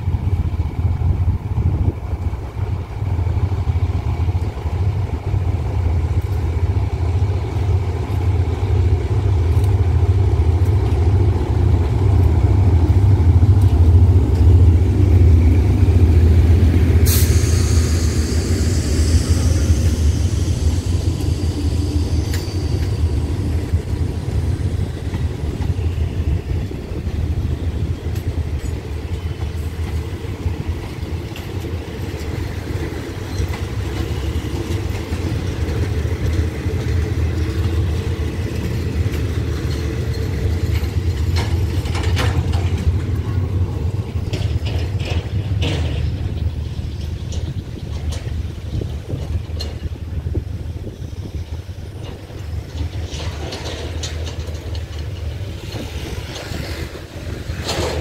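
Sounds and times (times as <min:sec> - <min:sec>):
coaches rolling on rails: 0:00.0 - 0:58.0
diesel locomotive engine rumble: 0:00.0 - 0:58.0.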